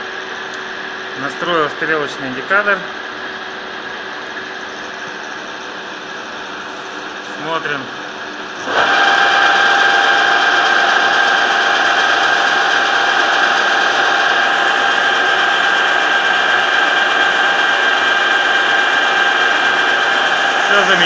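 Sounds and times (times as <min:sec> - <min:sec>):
metal lathe whining: 0:03.0 - 0:21.0.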